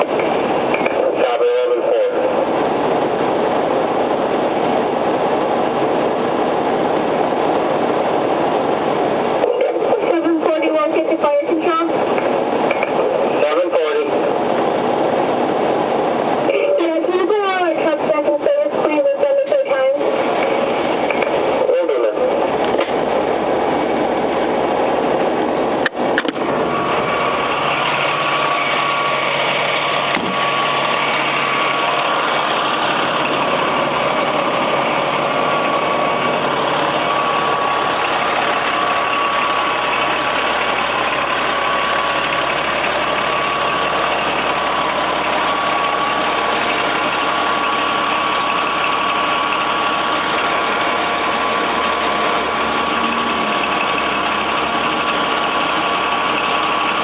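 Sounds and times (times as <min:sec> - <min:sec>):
fire engine running: 0:00.0 - 0:57.0.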